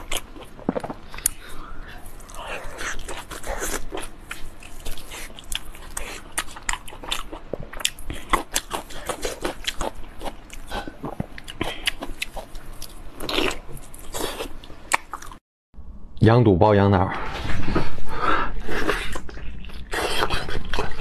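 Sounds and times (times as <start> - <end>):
wet chewing and sucking: 0.0 - 15.4, 18.6 - 21.0.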